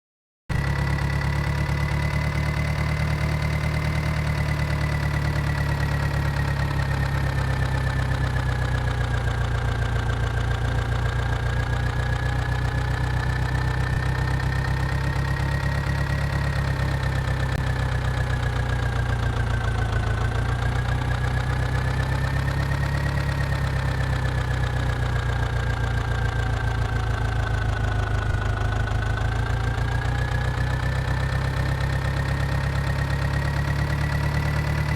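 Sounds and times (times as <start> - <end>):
tractor diesel engine idling: 0.5 - 34.9.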